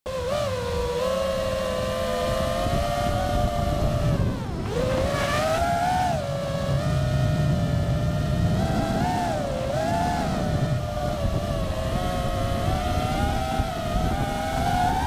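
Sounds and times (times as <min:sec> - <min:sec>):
drone propellers whining: 0:00.1 - 0:15.0.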